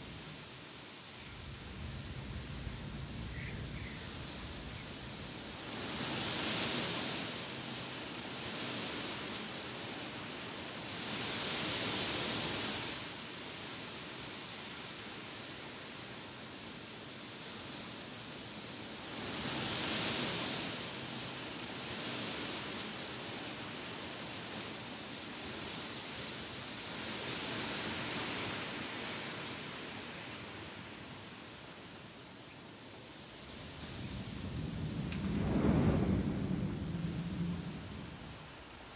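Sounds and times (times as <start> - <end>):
wind rustling tree leaves: 0.0 - 38.9.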